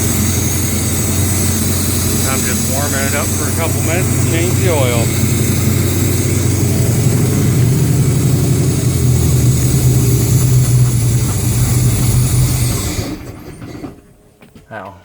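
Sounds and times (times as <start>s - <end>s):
engine idling: 0.0s - 14.4s.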